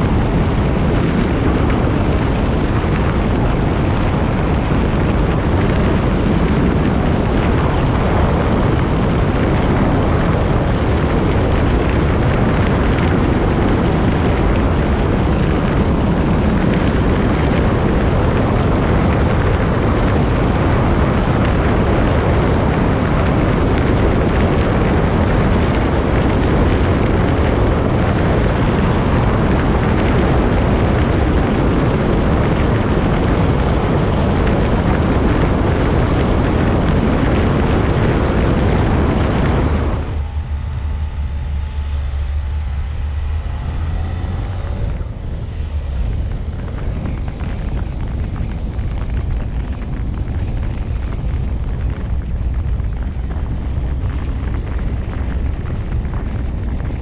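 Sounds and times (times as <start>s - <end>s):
car low rumble: 0.0s - 57.0s
wind and tyre noise: 0.0s - 57.0s.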